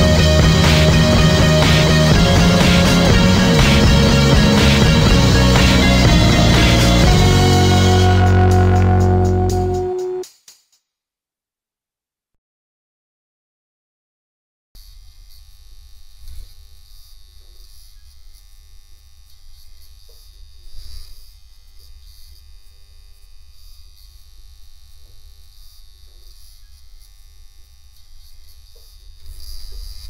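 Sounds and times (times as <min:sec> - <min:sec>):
electric buzz with hum: 0:00.0 - 0:10.2, 0:14.8 - 0:30.0.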